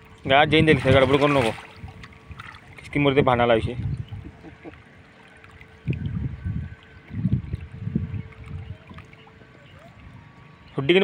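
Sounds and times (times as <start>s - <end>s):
river water splashing: 0.0s - 3.2s, 4.2s - 11.0s.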